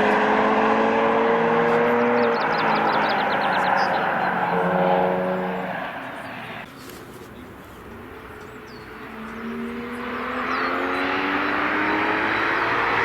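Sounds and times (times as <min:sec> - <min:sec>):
race car engine passing: 0:00.0 - 0:06.7, 0:08.1 - 0:13.0
bird chirps: 0:02.0 - 0:13.0.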